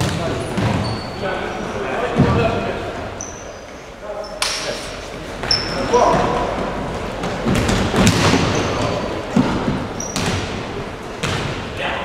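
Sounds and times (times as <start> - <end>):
shoes squeaking on court floor: 0.0 - 1.8, 3.1 - 11.4.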